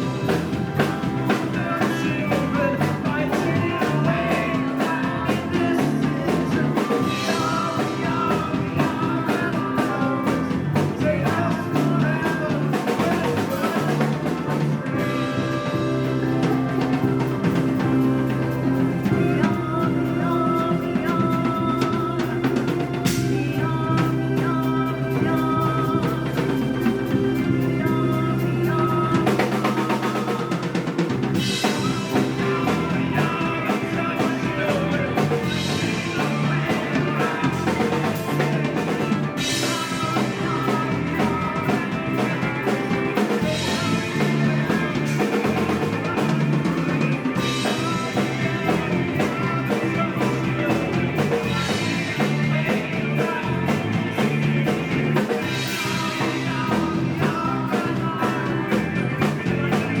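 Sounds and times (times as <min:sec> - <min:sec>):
drum kit beat: 0:00.0 - 1:00.0
live rock band playing: 0:00.0 - 1:00.0.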